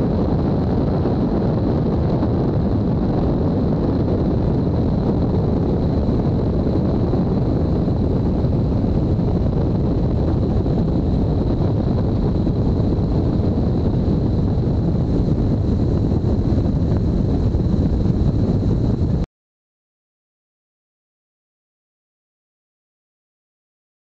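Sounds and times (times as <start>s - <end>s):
airplane engine and propeller: 0.0s - 19.3s
wind buffeting camera: 0.0s - 19.3s.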